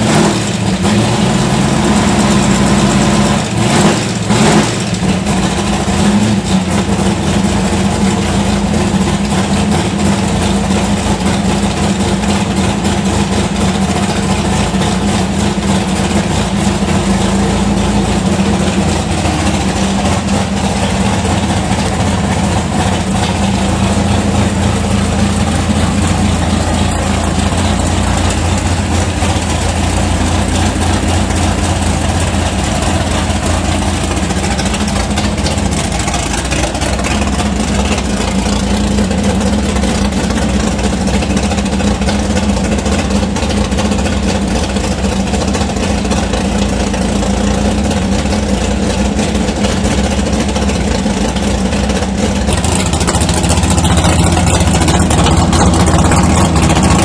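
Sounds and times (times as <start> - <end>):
vee eight engine idling: 0.0 - 57.0.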